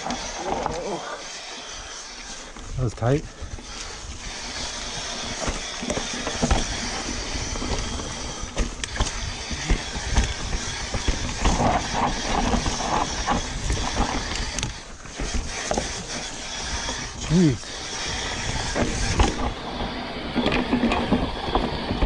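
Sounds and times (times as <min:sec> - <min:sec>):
bike knocking and rattling: 0:00.0 - 0:22.0
tyres on loose dirt: 0:00.0 - 0:22.0.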